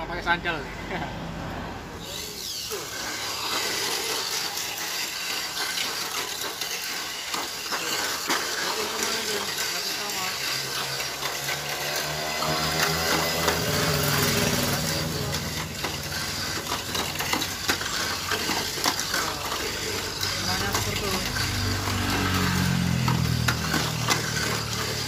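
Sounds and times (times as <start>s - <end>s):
toy car motors whirring: 1.6s - 25.0s
rollers rattling on track: 2.4s - 25.0s.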